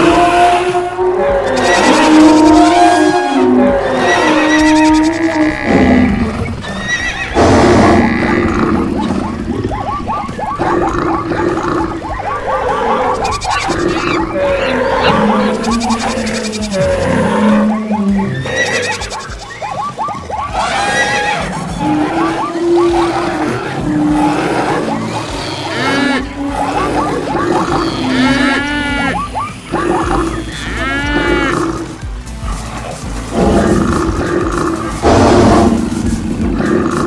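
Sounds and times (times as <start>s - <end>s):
animal calls overlapping: 0.0s - 37.0s
music: 0.0s - 37.0s.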